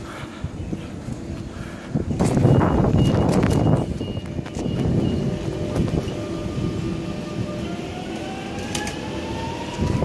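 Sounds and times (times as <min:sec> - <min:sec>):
train passing rumble: 0:00.0 - 0:10.0.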